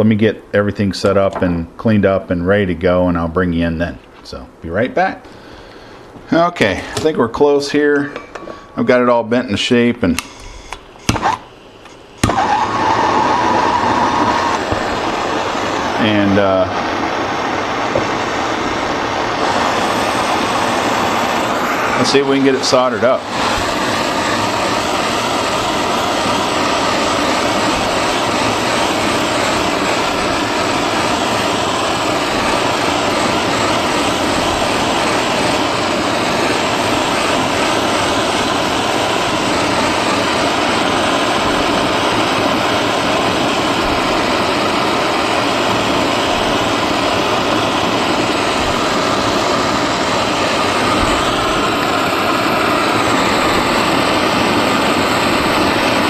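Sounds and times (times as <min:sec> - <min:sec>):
gas torch flame hissing: 0:03.7 - 0:56.0.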